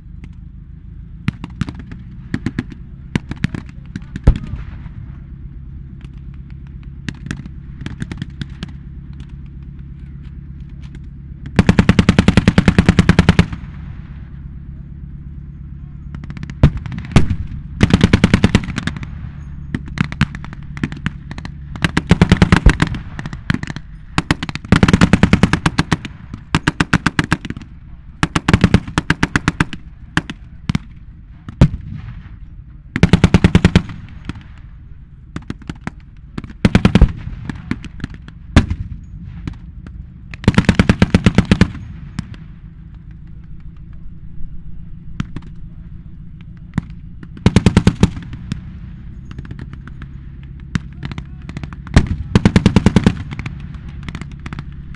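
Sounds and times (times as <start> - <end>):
low rumble: 0.0 - 54.9.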